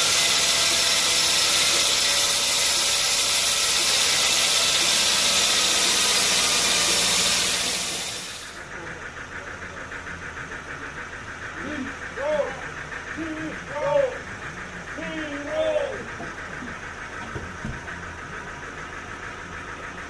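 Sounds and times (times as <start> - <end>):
pulsing engine running: 0.0 - 20.0
sawmill machinery hissing: 0.0 - 20.0.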